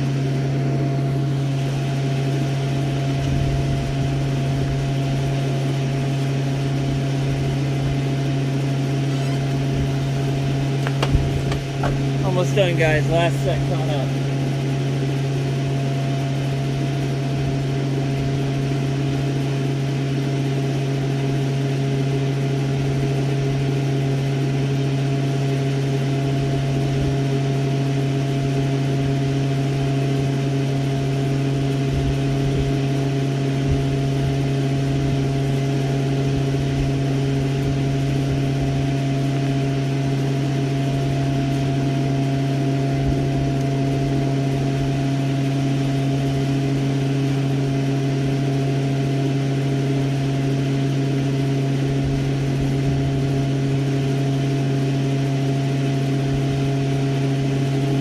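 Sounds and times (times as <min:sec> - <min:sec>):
machine hum: 0:00.0 - 0:58.0.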